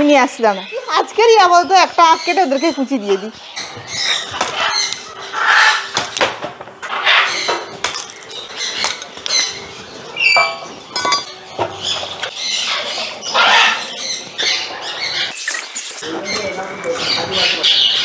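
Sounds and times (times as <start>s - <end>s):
parrots screeching and squawking: 0.4s - 18.0s.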